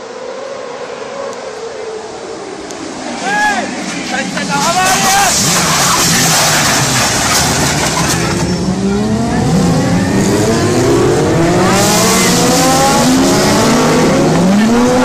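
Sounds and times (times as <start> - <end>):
racing engines accelerating: 0.0 - 15.0
steady noisy rush: 0.0 - 15.0.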